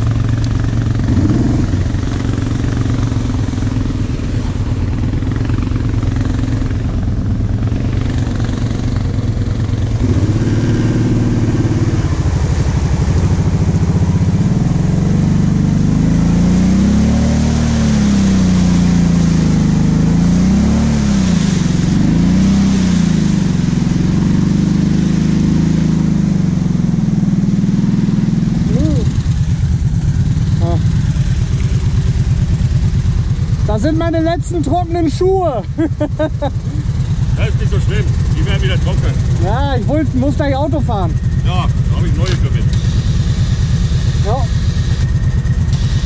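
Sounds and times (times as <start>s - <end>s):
driving through water and mud: 0.0s - 46.0s
quad engine revving: 0.0s - 46.0s.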